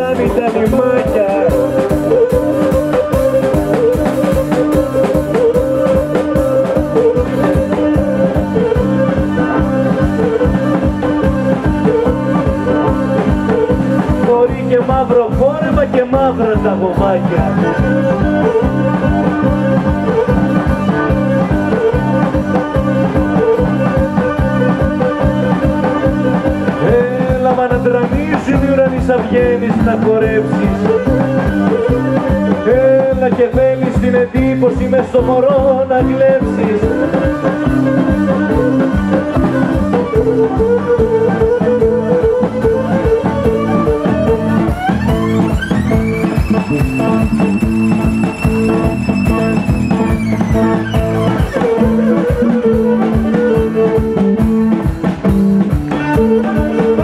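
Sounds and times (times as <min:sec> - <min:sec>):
drum beat: 0:00.0 - 0:57.0
violin melody: 0:00.0 - 0:57.0.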